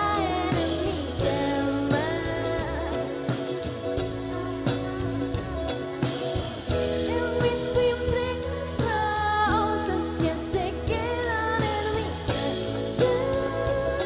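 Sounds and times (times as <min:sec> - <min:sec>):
drum kit: 0:00.0 - 0:14.0
drummer singing: 0:00.0 - 0:14.0
electric bass: 0:00.0 - 0:14.0
woman singing lead: 0:00.0 - 0:14.0.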